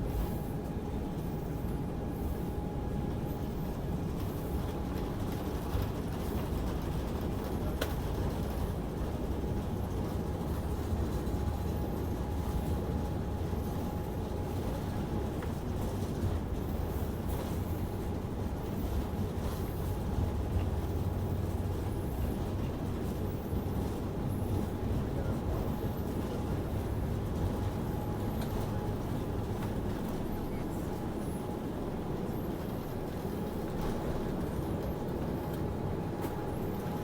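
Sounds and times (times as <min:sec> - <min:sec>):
airliner engines droning: 0:00.0 - 0:37.0.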